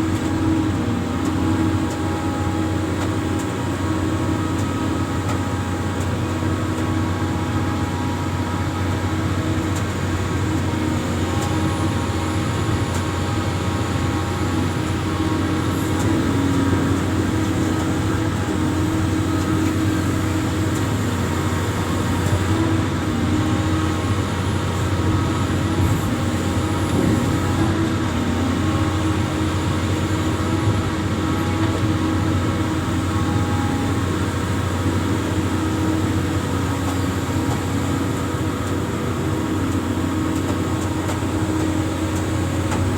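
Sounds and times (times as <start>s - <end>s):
excavator diesel engine droning: 0.0s - 42.9s.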